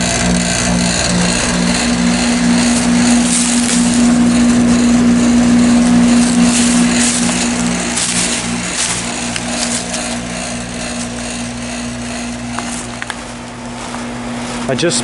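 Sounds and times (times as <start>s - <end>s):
throbbing tone: 0.0s - 14.3s
compressor hum: 0.0s - 15.0s
condenser fan rushing: 0.0s - 15.0s.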